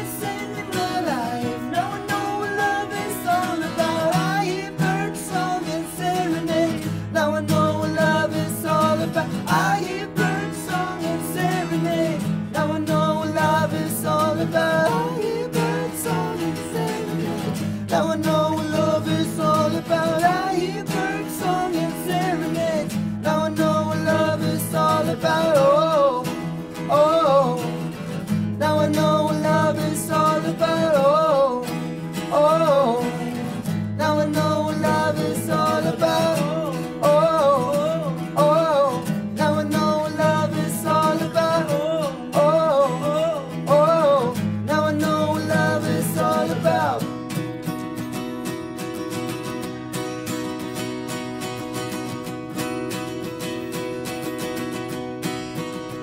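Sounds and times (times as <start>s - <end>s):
men singing: 0.0s - 47.1s
acoustic guitars strumming: 0.0s - 56.0s.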